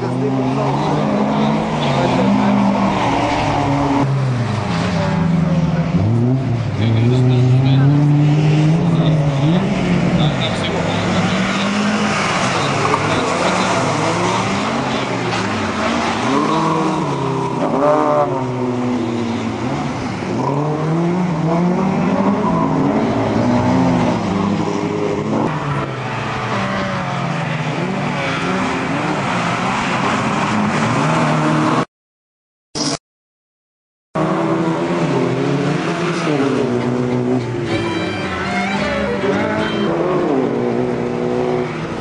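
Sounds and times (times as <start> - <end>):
rally car engines revving: 0.0 - 31.9, 34.2 - 42.0.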